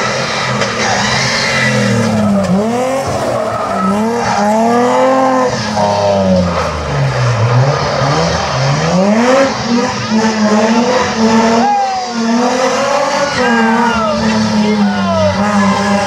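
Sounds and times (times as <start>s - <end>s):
rally car engine revving: 0.0s - 16.0s
tyres skidding on tarmac: 0.0s - 16.0s.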